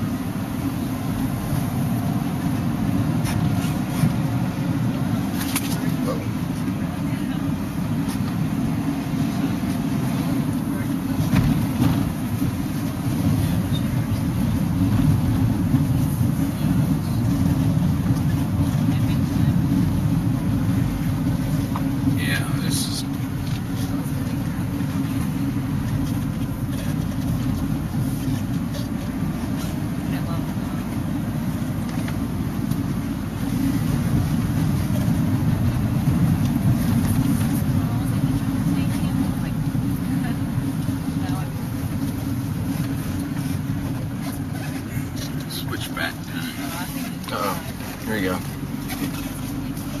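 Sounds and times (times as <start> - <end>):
tyres on the road: 0.0 - 50.0
van engine rumble: 0.0 - 50.0.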